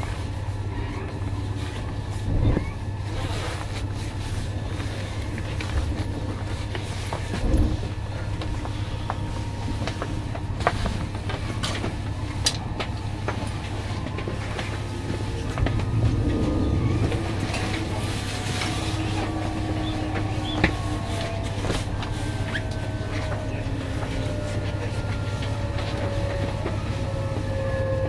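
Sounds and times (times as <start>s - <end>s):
train interior hum: 0.0s - 28.0s.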